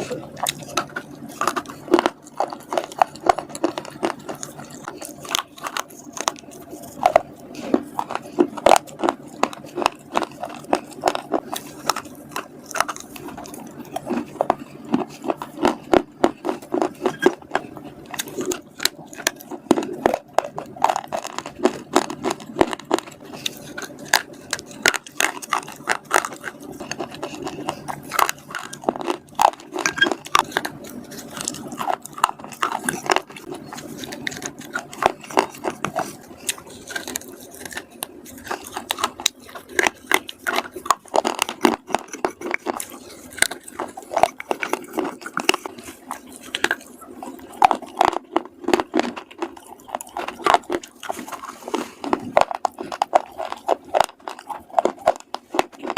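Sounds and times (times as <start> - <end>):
chewing crunchy chips: 0.0 - 55.9.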